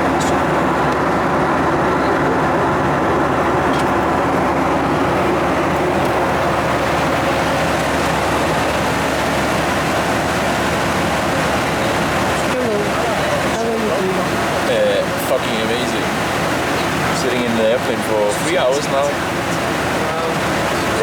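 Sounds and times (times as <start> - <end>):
vehicle noise with low hum: 0.0 - 21.0.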